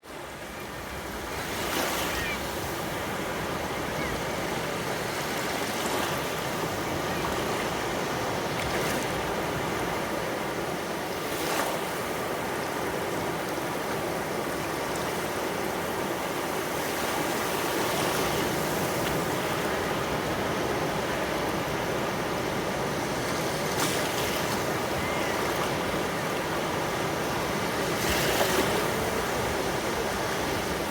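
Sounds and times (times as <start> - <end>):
sea waves washing onto beach: 0.1 - 30.9
waves breaking with splashes: 0.8 - 30.9.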